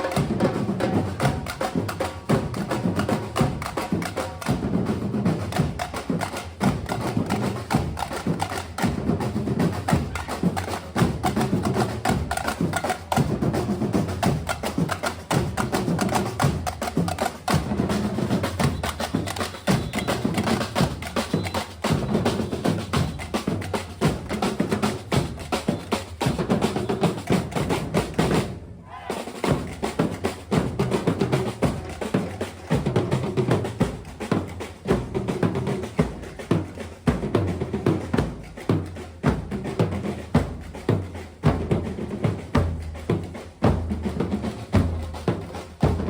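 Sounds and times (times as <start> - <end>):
samba percussion ensemble drumming: 0.0 - 46.0.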